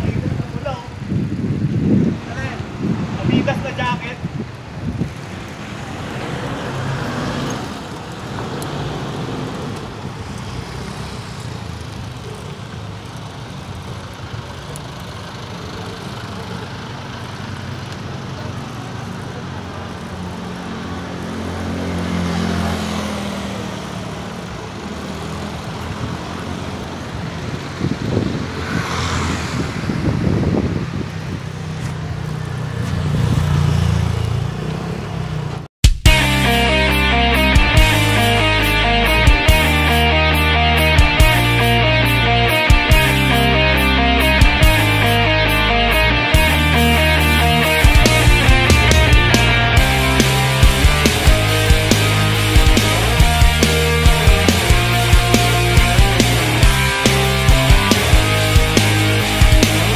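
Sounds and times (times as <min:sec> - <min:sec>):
road noise: 0:00.0 - 0:59.9
vehicles passing close by: 0:00.0 - 0:59.9.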